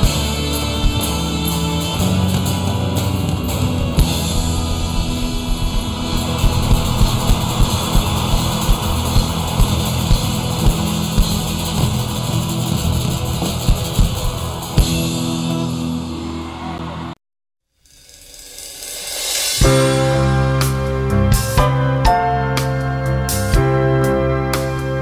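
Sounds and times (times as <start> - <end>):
music with drums: 0.0 - 16.0, 17.8 - 25.0.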